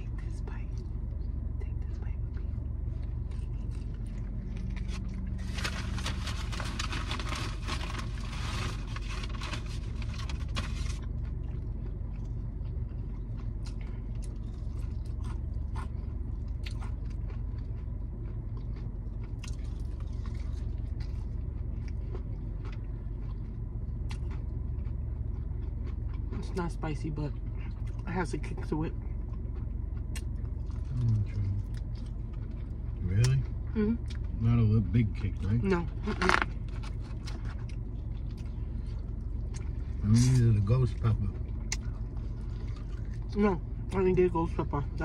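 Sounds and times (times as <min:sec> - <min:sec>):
low hum: 0:00.0 - 0:45.0
crunching fried chicken: 0:02.2 - 0:26.6, 0:29.2 - 0:43.4.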